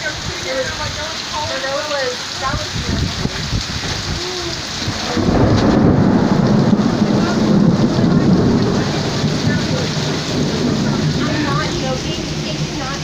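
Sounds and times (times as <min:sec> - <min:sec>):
heavy rain pouring: 0:00.0 - 0:13.0
thunder rumbling: 0:02.4 - 0:13.0.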